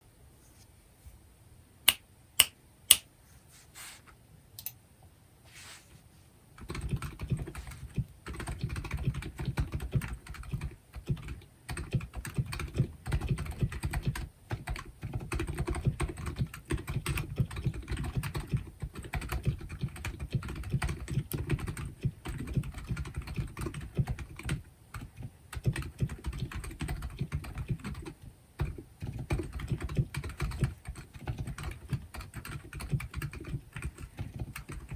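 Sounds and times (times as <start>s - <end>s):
mechanical keyboard typing: 6.6s - 34.9s.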